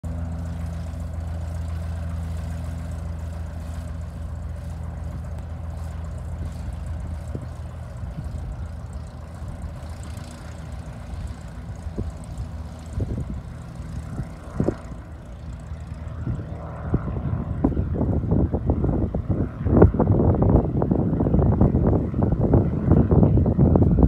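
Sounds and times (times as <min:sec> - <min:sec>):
propeller aircraft engine idling: 0:00.0 - 0:24.0.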